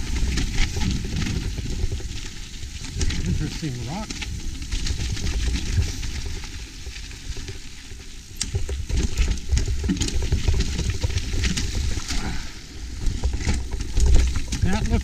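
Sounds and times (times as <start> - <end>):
bike rattling: 0.0 - 15.0
tyres crackling over rock: 0.0 - 15.0.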